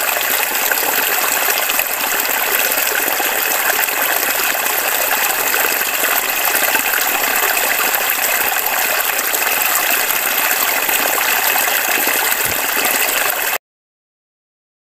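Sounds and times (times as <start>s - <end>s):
stream running over gravel: 0.0s - 13.6s.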